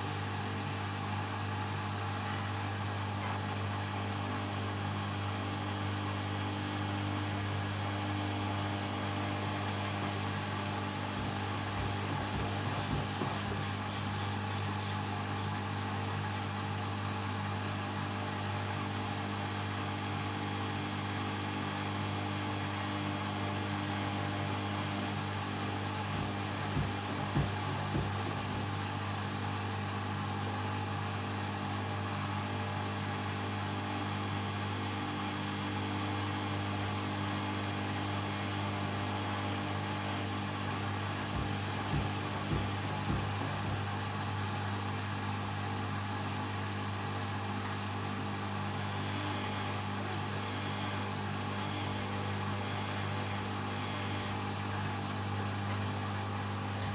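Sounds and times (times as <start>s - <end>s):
washing machine motor hum: 0.0s - 56.9s.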